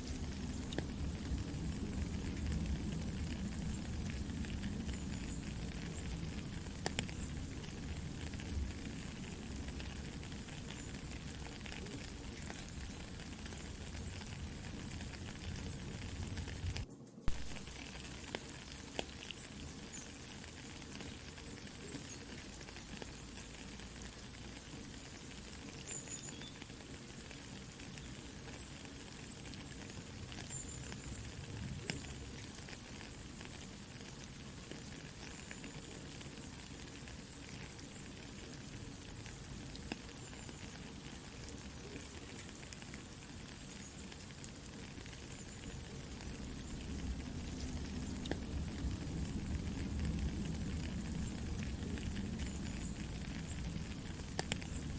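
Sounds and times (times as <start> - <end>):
campfire crackling and popping: 0.0 - 54.9
soft rain: 0.0 - 54.9.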